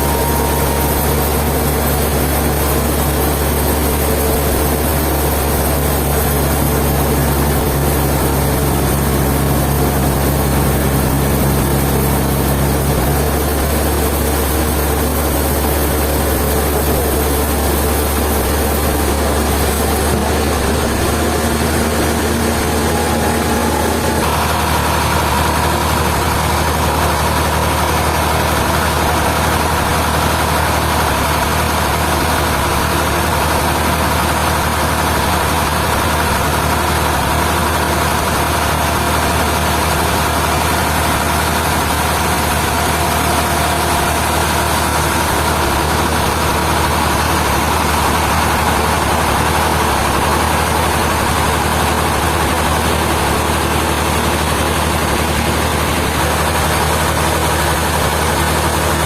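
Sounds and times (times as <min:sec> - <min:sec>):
machinery whine: 0:00.0 - 0:59.0
sawmill machinery hum: 0:00.0 - 0:59.0.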